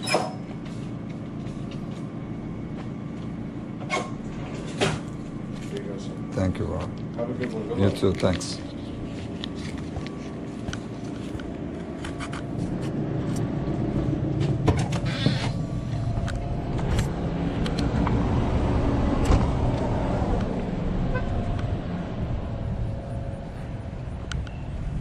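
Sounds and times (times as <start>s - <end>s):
car engines running: 0.8s - 25.0s.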